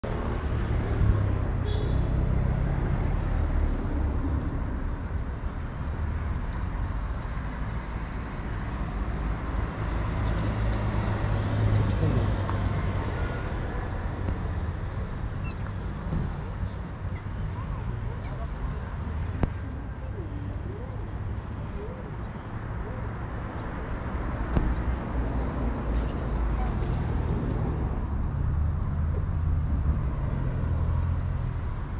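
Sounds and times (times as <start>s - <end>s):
traffic rumble: 0.0s - 31.9s.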